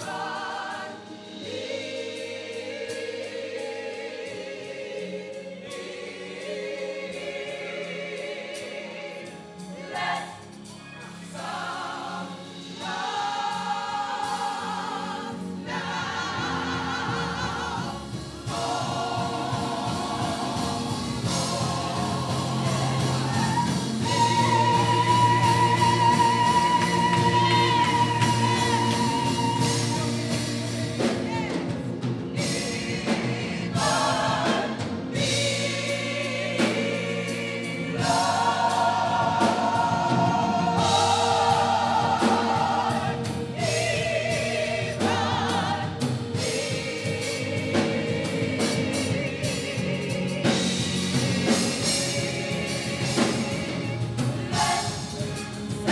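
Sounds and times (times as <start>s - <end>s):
gospel choir singing: 0.0s - 55.9s.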